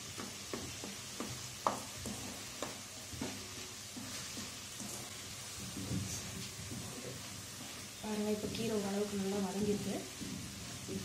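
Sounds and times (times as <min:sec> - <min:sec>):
leaves sizzling in a pan: 0:00.0 - 0:11.0
wooden spatula scraping a pan: 0:00.0 - 0:11.0.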